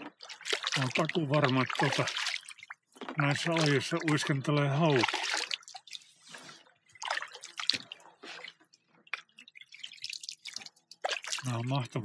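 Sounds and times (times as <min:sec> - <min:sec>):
paddle splashing water: 0:00.0 - 0:11.9
water dripping off paddle: 0:00.0 - 0:11.9.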